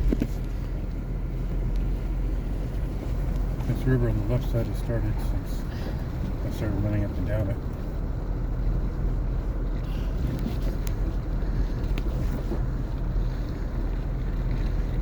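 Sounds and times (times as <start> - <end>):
car rumbling through snow: 0.0 - 15.0.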